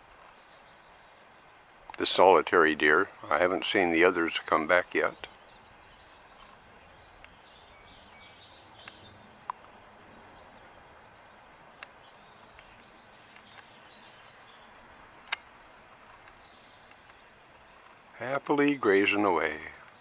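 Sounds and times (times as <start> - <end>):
faint outdoor ambience: 0.0 - 20.0
small birds chirping: 0.0 - 20.0.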